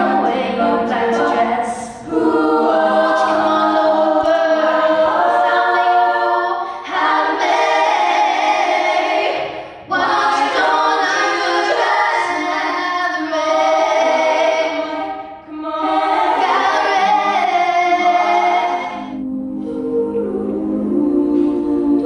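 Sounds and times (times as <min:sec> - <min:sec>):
a cappella group singing: 0:00.0 - 0:22.0.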